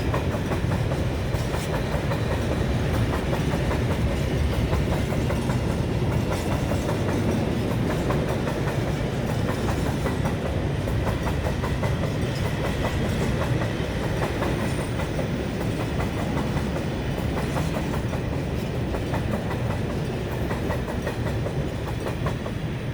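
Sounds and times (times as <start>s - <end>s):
train rumble: 0.0s - 22.9s
train wheels clicking over rail joints: 0.0s - 22.9s.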